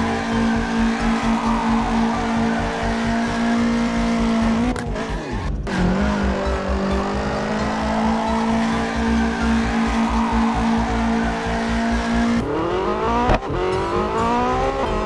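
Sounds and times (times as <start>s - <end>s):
race car engine drone: 0.0s - 15.0s.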